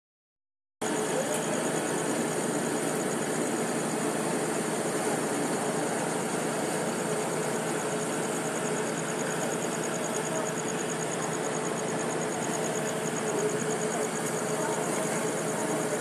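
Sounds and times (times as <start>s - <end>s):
engine running steadily: 0.8s - 16.0s.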